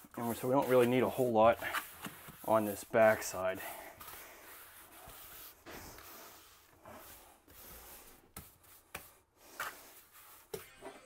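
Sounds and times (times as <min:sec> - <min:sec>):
trowel scraping mortar: 0:00.0 - 0:10.6.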